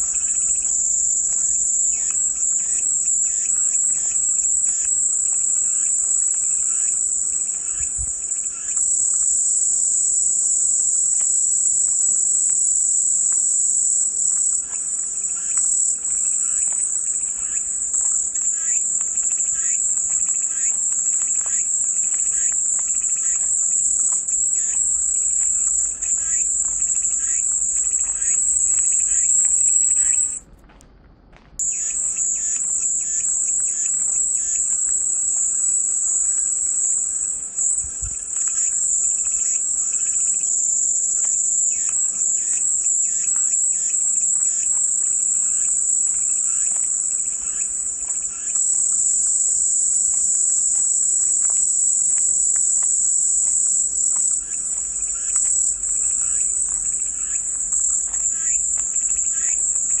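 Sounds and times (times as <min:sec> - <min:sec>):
cicadas singing: 0:00.0 - 0:30.4, 0:31.6 - 1:00.0
faint ticks: 0:00.0 - 1:00.0.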